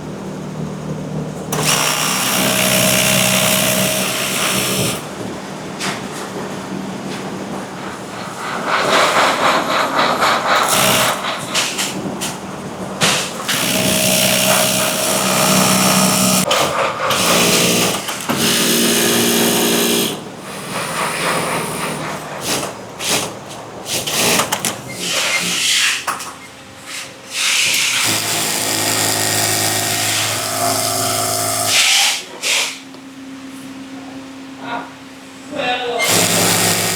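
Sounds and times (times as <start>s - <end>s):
industrial machines running: 0.0s - 25.1s, 27.8s - 31.8s, 36.0s - 36.9s.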